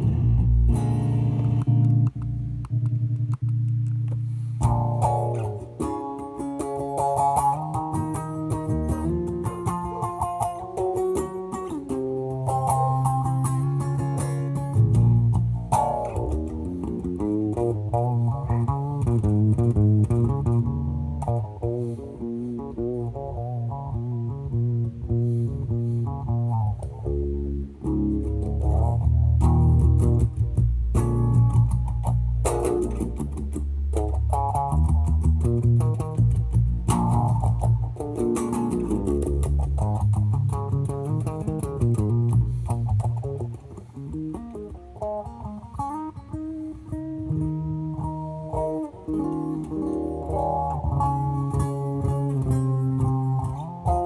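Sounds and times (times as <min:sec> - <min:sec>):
bass guitar line: 0:00.0 - 0:54.0
plucked guitar music: 0:00.0 - 0:54.0
steady beat: 0:00.0 - 0:54.0.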